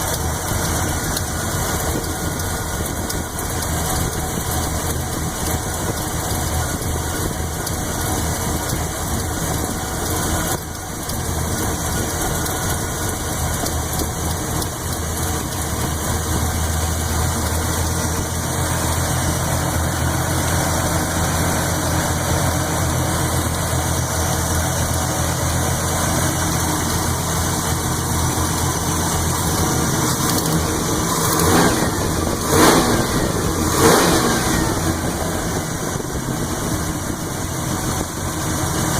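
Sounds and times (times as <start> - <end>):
engine lifter tick: 0.0 - 19.4, 22.6 - 38.9
car engine idling: 0.0 - 38.9
engine throttle blips: 0.0 - 38.9.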